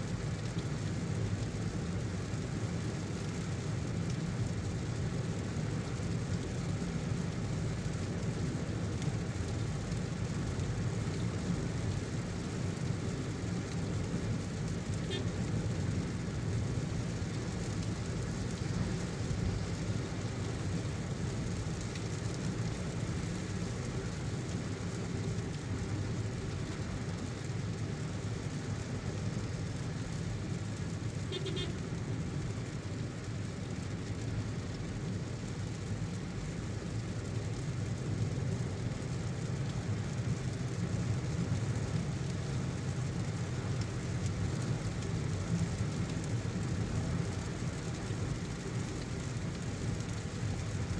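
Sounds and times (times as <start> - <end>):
car road and engine rumble: 0.0 - 50.9
rain hissing: 0.0 - 50.9.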